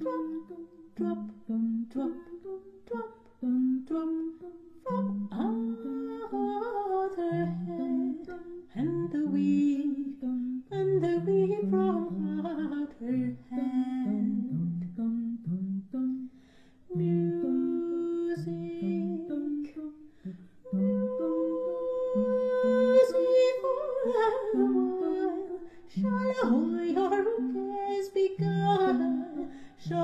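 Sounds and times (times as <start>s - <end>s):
woman singing: 0.0s - 30.0s.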